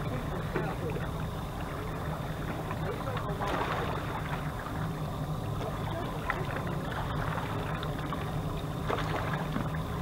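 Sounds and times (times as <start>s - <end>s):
river water lapping against rocks: 0.0s - 10.0s
steady low rumble: 0.0s - 10.0s.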